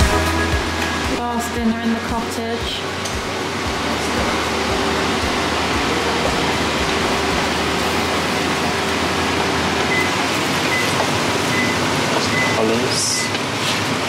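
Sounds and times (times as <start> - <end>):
extractor fan rushing: 0.0 - 14.0.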